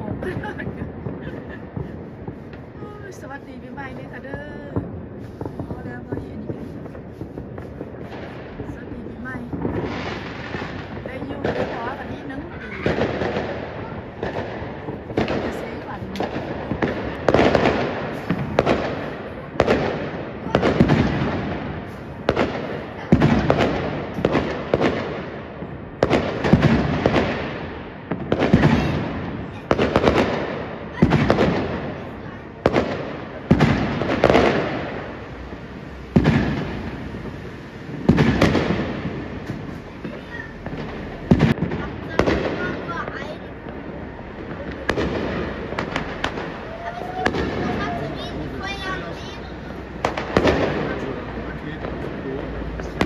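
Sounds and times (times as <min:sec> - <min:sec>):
fireworks bursting with bangs: 0:00.0 - 0:53.0
rumbling echo: 0:00.0 - 0:53.0.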